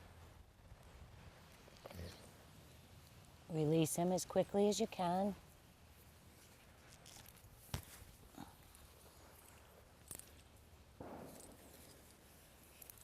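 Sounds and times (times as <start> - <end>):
soft rustle: 0.0 - 13.0.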